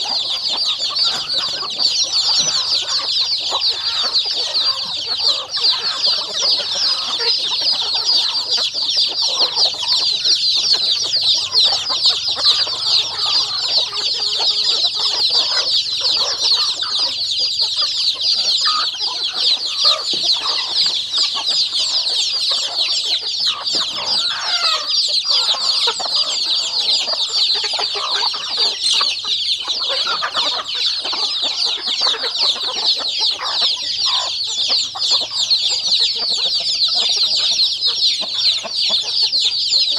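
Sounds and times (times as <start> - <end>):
chickens clucking: 0.0 - 39.9
chorus of rapid peeping: 0.0 - 39.9.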